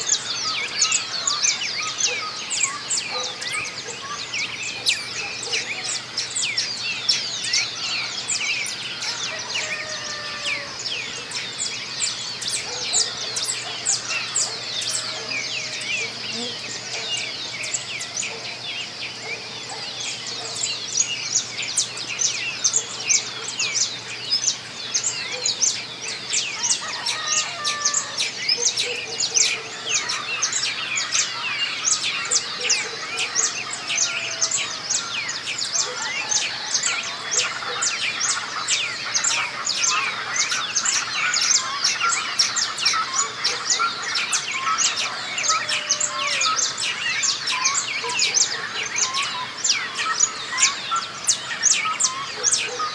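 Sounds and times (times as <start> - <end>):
small birds chirping and trilling: 0.0 - 52.9.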